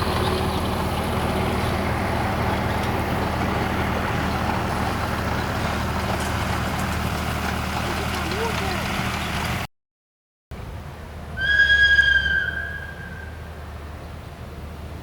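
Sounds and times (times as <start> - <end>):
diesel train engine humming: 0.0 - 9.7, 10.5 - 15.0.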